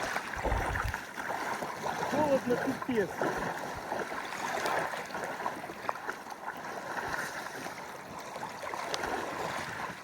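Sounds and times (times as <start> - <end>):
seawater splashing: 0.0 - 10.0.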